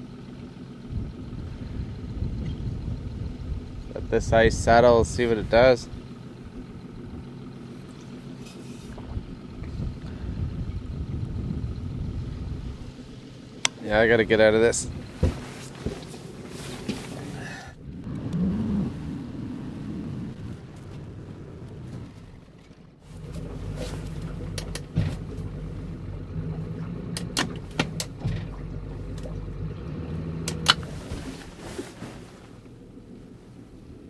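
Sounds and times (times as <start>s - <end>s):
boat motor running: 0.0s - 34.0s.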